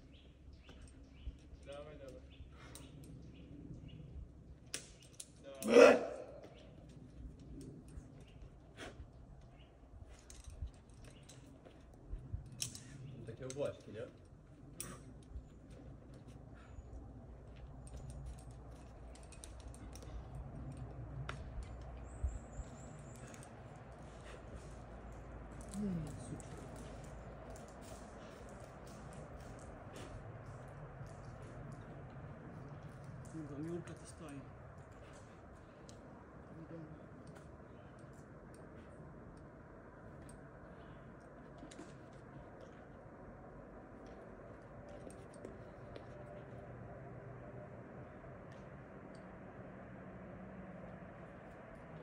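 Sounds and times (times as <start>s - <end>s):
climbing gear clicks and taps: 0.1s - 5.7s, 6.4s - 46.8s, 48.0s - 49.4s
steady low rumble: 6.3s - 52.0s.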